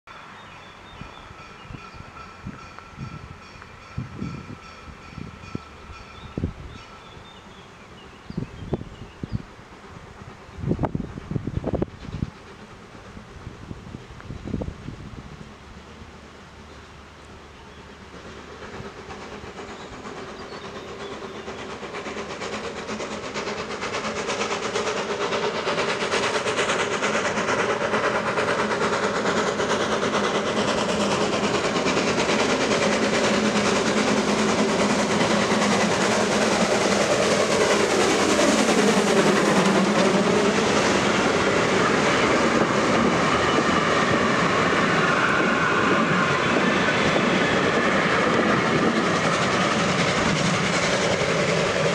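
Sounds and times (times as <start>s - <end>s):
steam locomotive passing: 0.1s - 51.9s.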